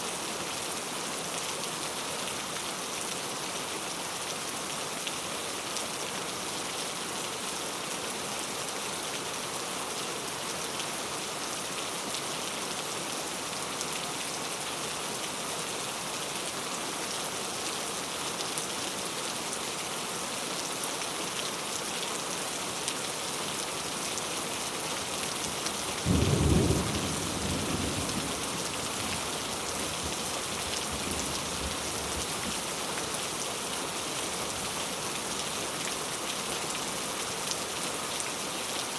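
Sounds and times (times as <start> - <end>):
heavy rain falling: 0.1 - 38.9.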